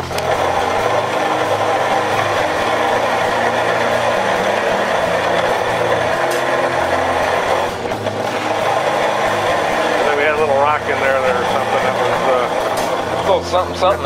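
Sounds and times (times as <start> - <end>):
grain mill grinding: 0.0 - 14.0.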